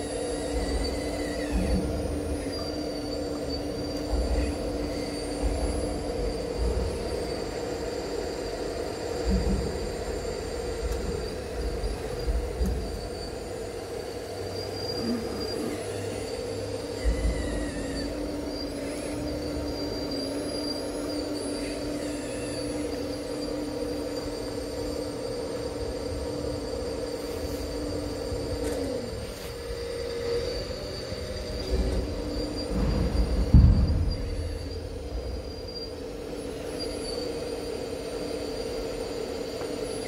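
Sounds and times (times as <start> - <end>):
model excavator motors whining: 0.0 - 40.0.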